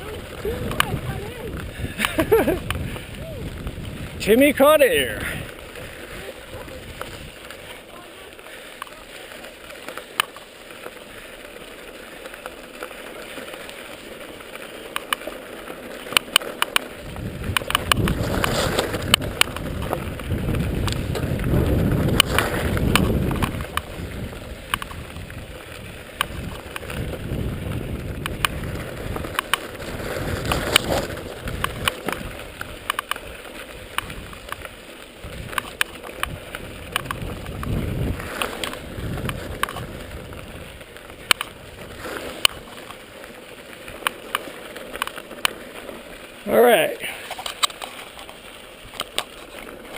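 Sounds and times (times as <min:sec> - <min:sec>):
bike rattling over bumps: 0:00.0 - 0:49.9
bike tyre noise on dirt: 0:00.0 - 0:49.9.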